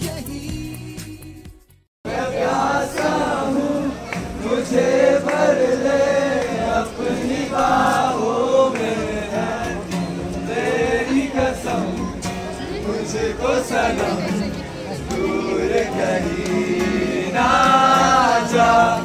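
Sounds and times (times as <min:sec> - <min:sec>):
group singing in chorus: 0:02.1 - 0:19.0
strummed acoustic guitar: 0:02.1 - 0:19.0.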